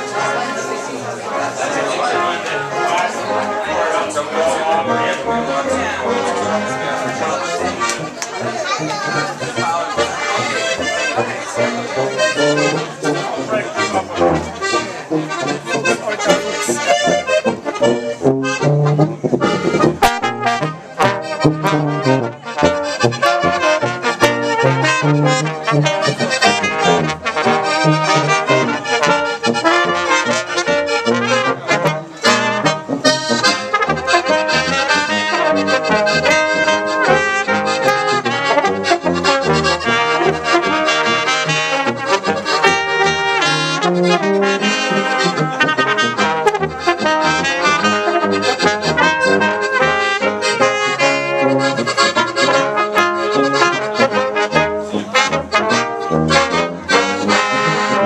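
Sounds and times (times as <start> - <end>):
brass and accordion band playing: 0.0 - 58.0.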